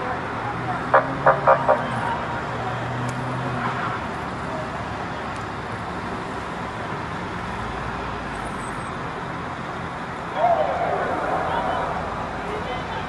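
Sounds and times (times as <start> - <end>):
cars passing on road: 0.0 - 13.0.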